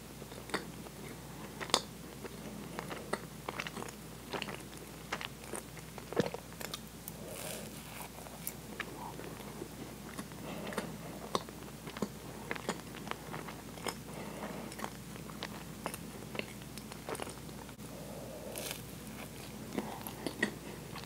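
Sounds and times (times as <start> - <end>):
person chewing cake: 0.2 - 21.0.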